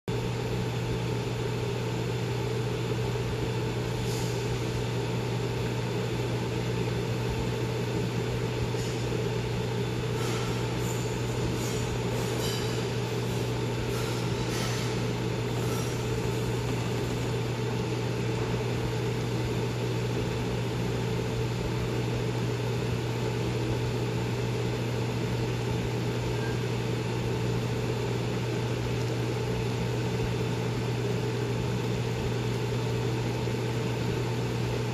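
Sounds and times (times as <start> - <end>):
low mechanical hum: 0.0 - 34.9.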